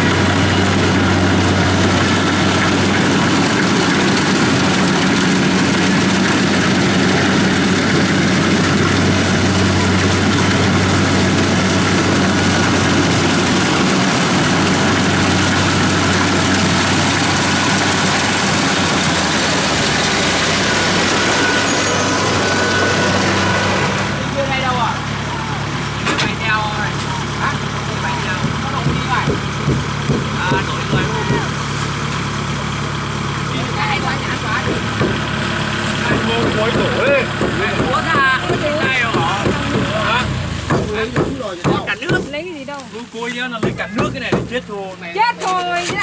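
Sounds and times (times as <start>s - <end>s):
combine harvester diesel engine: 0.0s - 46.0s.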